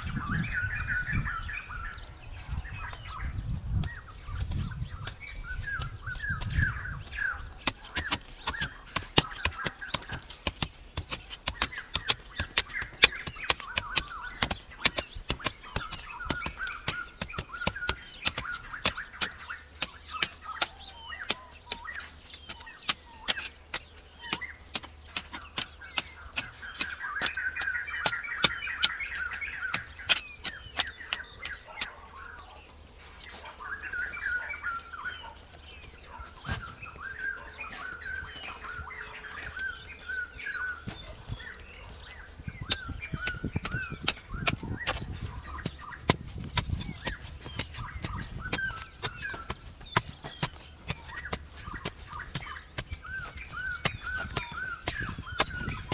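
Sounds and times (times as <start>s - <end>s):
birds chirping and trilling: 0.0s - 55.9s
hand tool clicking in soil: 2.7s - 55.9s.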